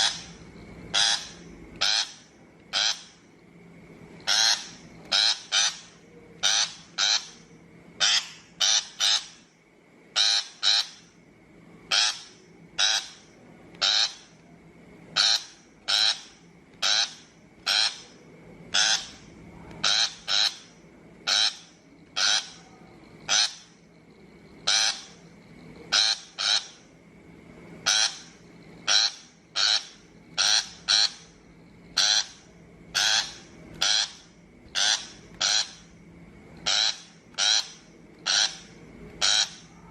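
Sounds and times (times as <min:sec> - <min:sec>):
shrike harsh rasping calls: 0:00.0 - 0:03.3, 0:04.2 - 0:09.5, 0:10.1 - 0:11.2, 0:11.9 - 0:14.4, 0:15.1 - 0:23.9, 0:24.6 - 0:25.2, 0:25.9 - 0:26.9, 0:27.8 - 0:36.0, 0:36.6 - 0:39.9.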